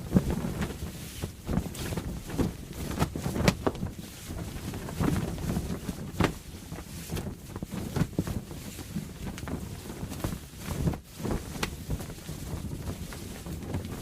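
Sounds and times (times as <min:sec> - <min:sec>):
sail cloth flapping and snapping: 0:00.0 - 0:14.0.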